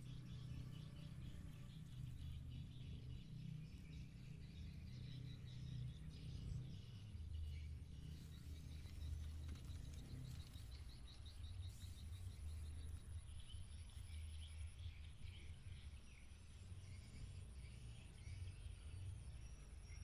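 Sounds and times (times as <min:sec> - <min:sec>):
low steady rumble: 0:00.0 - 0:20.0
small birds chirping: 0:00.0 - 0:20.0.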